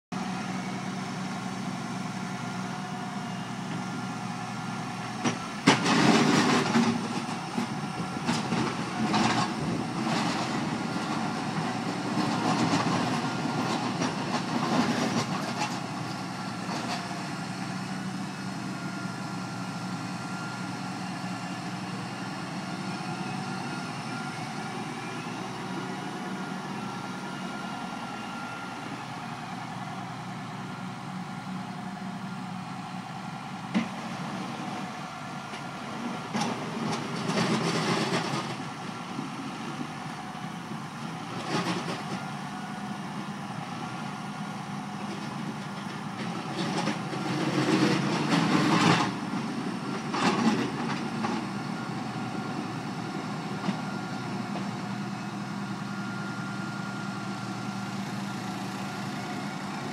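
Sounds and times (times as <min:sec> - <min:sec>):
tractor engine running: 0:00.1 - 0:59.9
loader bucket scraping snow: 0:00.2 - 0:59.9.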